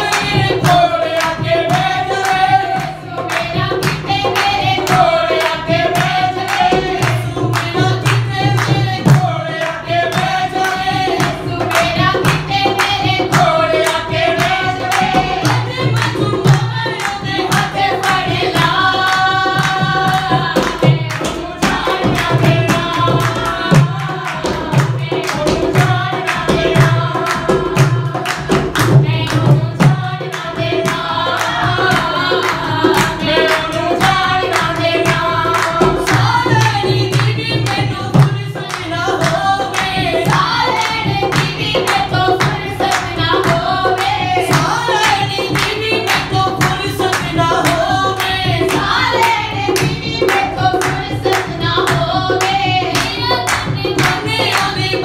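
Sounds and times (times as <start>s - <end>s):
dholak drum beat: 0.0s - 55.0s
group singing devotional song: 0.0s - 55.0s
hand clapping: 0.0s - 55.0s.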